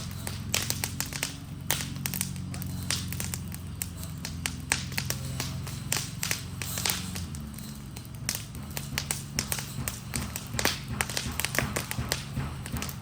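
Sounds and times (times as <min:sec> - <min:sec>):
fire crackling and popping: 0:00.0 - 0:13.0
low steady fire rumble: 0:00.0 - 0:13.0.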